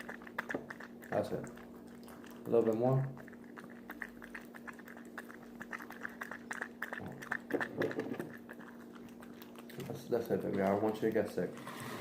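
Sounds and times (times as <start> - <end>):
dog lapping milk: 0.0 - 11.6.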